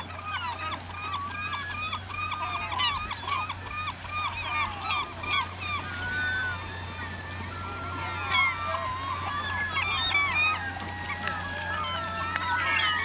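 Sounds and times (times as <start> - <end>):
gulls calling: 0.0 - 13.0.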